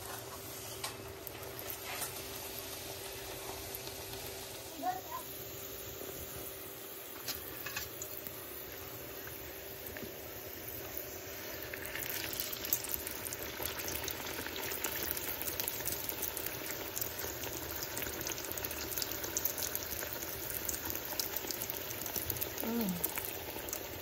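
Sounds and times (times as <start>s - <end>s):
oil sizzling and popping: 0.0s - 24.0s.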